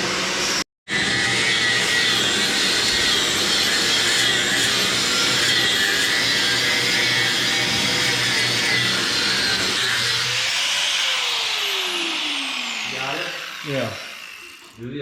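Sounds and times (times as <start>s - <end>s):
grinder whining on steel: 0.0s - 15.0s.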